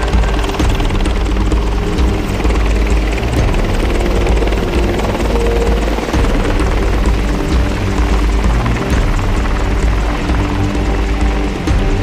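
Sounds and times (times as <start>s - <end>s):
helicopter flying low: 0.0s - 12.0s.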